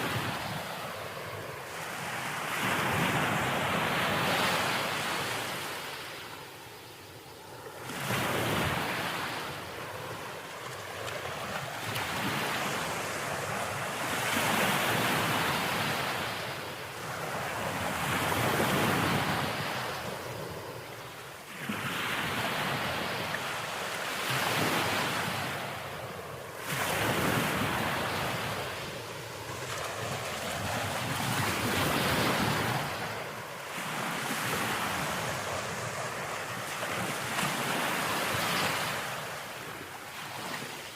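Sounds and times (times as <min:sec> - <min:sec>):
ocean waves breaking: 0:07.4 - 0:40.9.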